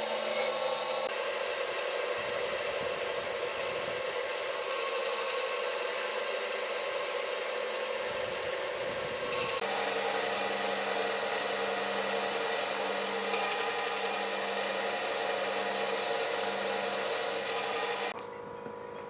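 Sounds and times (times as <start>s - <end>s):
power tool whining on wood: 0.0s - 18.2s.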